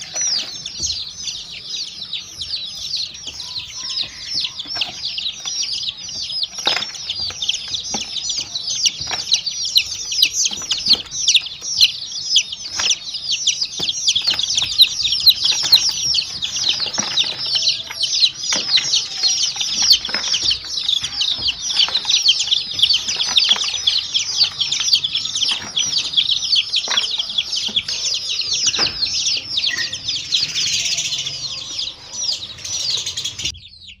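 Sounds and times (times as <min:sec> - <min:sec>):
baby chicks peeping: 0:00.0 - 0:34.0.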